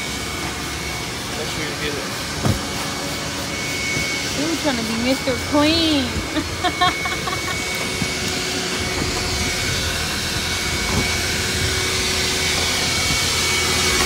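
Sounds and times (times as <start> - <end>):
thin high whine: 0.0 - 14.0
vacuum rushing hum: 0.0 - 14.0.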